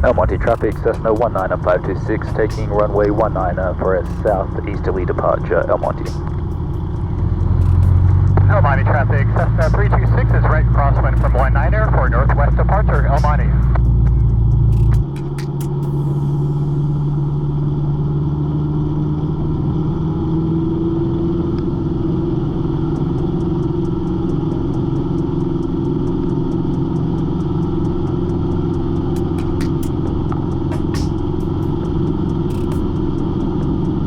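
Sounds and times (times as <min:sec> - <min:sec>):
airplane piston engine revving: 0:00.0 - 0:34.0.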